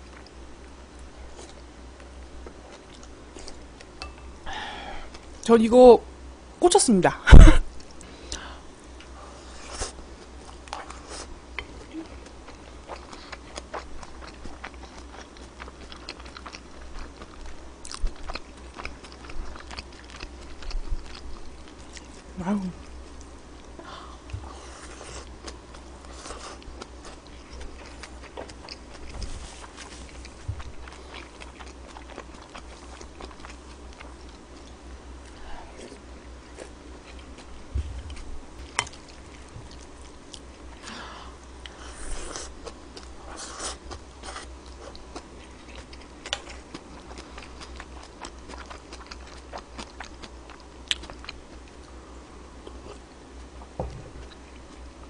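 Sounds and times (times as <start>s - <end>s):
person chewing food: 0.0s - 4.3s, 9.0s - 55.0s.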